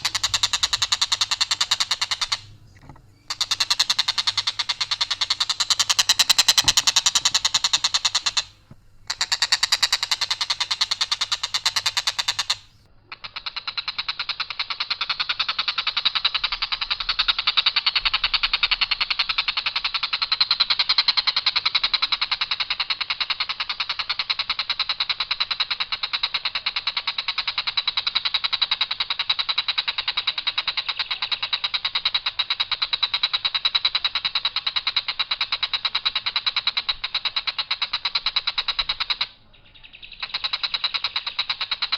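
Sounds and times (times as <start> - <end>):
kingfisher harsh rapid rattle: 0.0 - 39.4, 40.3 - 41.9.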